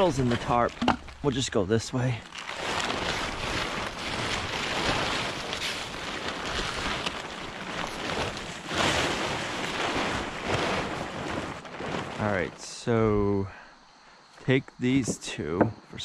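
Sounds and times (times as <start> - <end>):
plastic tarp rustling and crinkling: 0.0 - 13.0.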